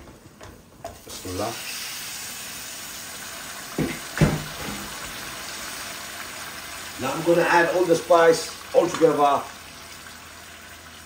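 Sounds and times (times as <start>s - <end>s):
chicken sizzling in hot oil: 1.0s - 11.0s.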